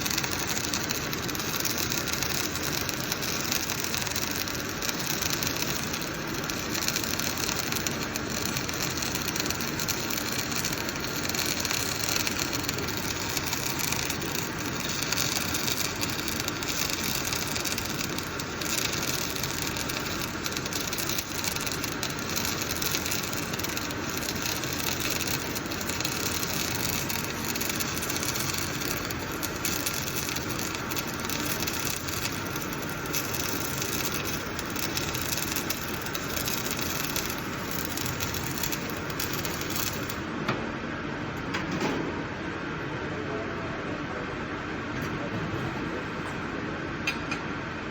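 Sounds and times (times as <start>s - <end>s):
welding arc crackling: 0.0s - 40.4s.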